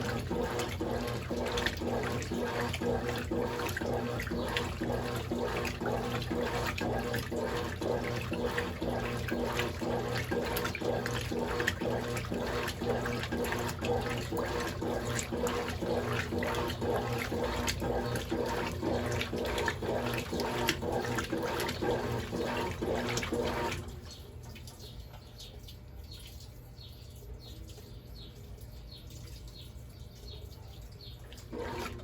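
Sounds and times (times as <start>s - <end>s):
washing machine motor hum: 0.0s - 26.1s, 30.0s - 32.0s
water sloshing: 0.0s - 26.7s, 28.4s - 32.0s
water dripping and trickling: 0.0s - 32.0s.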